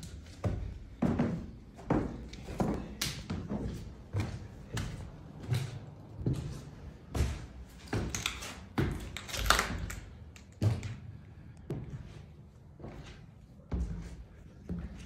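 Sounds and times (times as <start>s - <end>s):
footsteps on a stairway: 0.0s - 15.0s.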